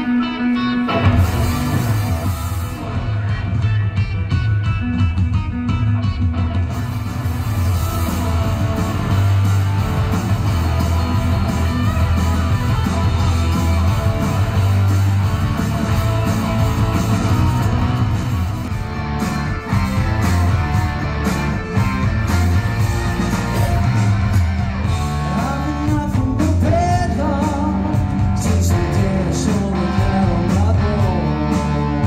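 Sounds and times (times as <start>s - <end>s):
electric guitar: 0.0s - 32.0s
live rock music: 0.0s - 32.0s
steady bass line: 0.0s - 32.0s.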